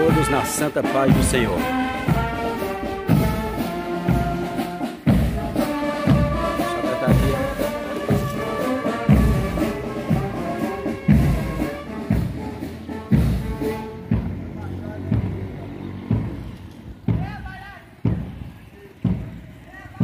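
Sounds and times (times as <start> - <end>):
heavy drum strokes: 0.0 - 20.0
marching band playing: 0.0 - 20.0.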